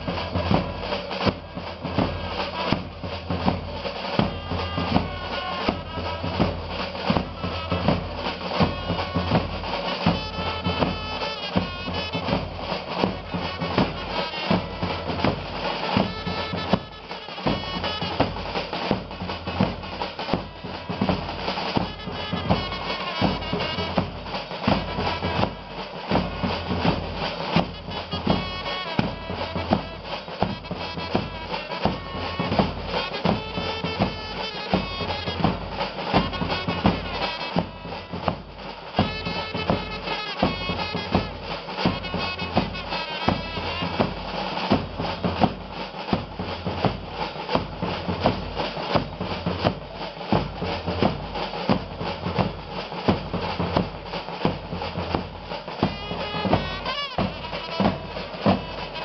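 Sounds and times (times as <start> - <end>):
band music: 0.0 - 59.0
bass drums beating: 0.0 - 59.0
wind instruments melody: 0.0 - 59.0.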